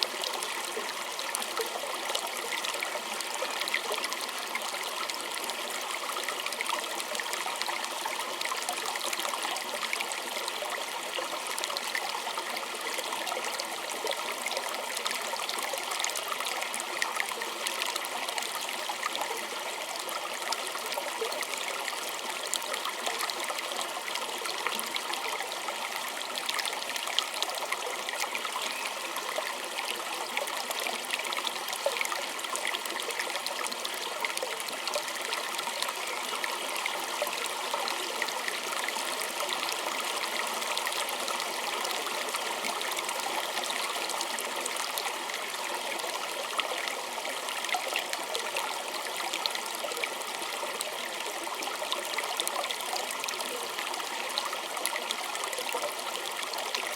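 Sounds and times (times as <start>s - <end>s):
stream trickling over stones: 0.0s - 56.9s.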